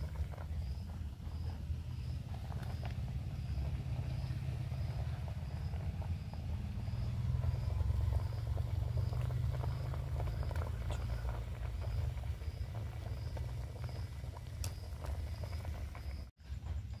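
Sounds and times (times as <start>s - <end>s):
low steady rumble: 0.0s - 17.0s
pot bubbling and crackling: 0.0s - 17.0s.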